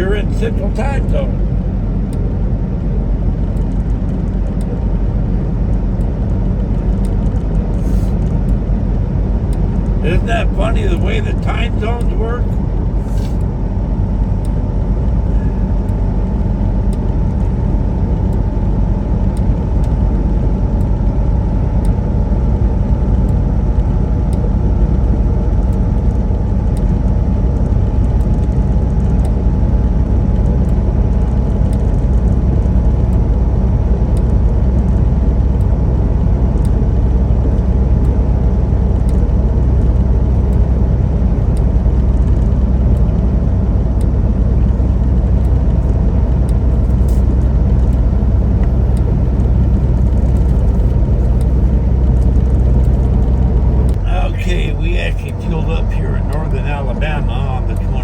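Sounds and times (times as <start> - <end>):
diesel truck engine drone: 0.0 - 58.0
road noise inside cab: 0.0 - 58.0.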